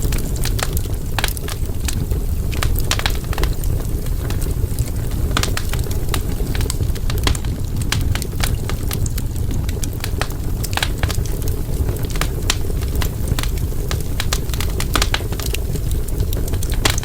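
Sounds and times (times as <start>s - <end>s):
burning wood crackling and popping: 0.0s - 17.0s
campfire flame rumbling: 0.0s - 17.0s.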